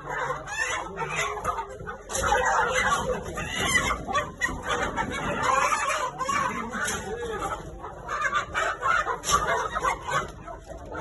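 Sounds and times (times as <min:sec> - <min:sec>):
flock of chickens calling: 0:00.0 - 0:11.0.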